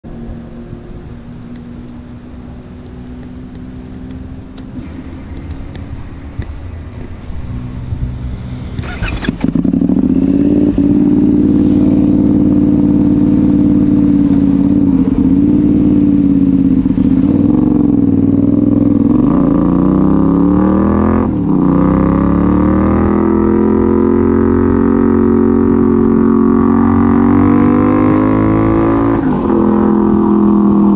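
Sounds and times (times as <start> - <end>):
motorcycle engine without silencer: 0.0 - 30.9.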